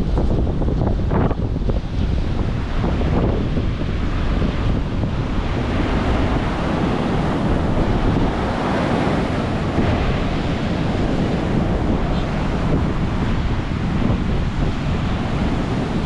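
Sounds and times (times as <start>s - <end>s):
wind buffeting microphone: 0.0s - 16.0s
surf breaking on beach: 1.9s - 16.0s.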